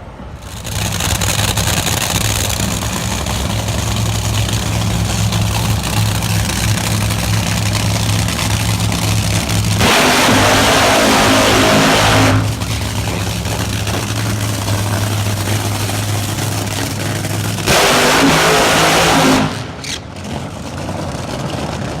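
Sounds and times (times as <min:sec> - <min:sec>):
car engine idling: 0:00.0 - 0:22.0
car engine revving: 0:00.4 - 0:22.0.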